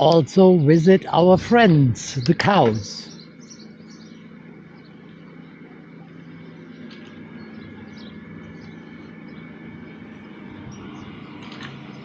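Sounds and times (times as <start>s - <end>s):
bicycle running hum: 0.0s - 12.0s.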